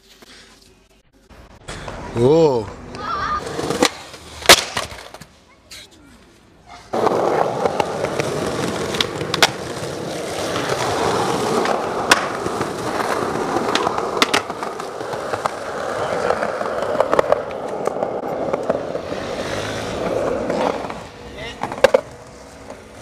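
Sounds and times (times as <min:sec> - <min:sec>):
skateboard wheels rolling on concrete: 0:00.0 - 0:23.0.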